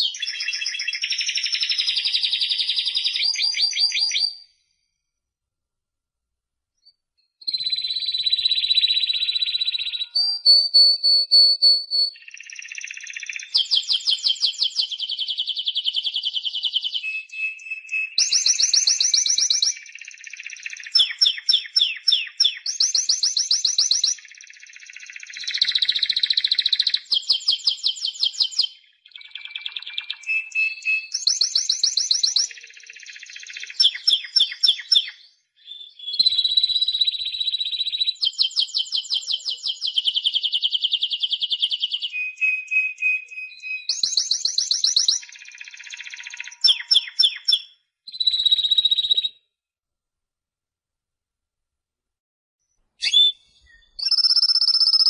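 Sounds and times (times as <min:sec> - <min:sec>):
canary singing trills: 0:00.0 - 0:04.4, 0:07.4 - 0:49.3, 0:53.0 - 0:55.0.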